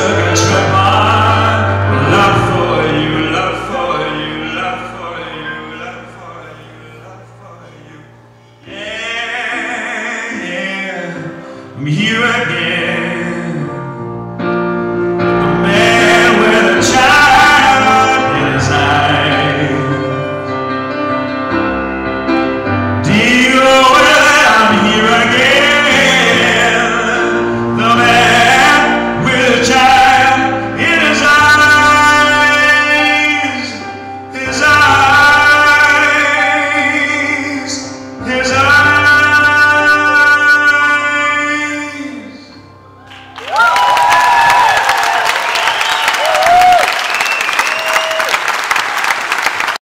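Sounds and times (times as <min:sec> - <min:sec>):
operatic singing: 0:00.0 - 0:14.5, 0:15.2 - 0:21.0, 0:22.9 - 0:48.4
instrumental backing music: 0:00.0 - 0:44.7.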